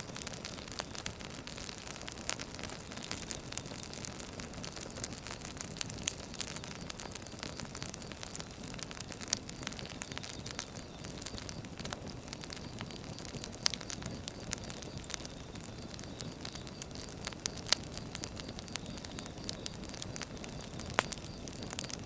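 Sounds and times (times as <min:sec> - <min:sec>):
fire hissing: 0:00.0 - 0:22.0
firewood crackling and popping: 0:00.0 - 0:22.0.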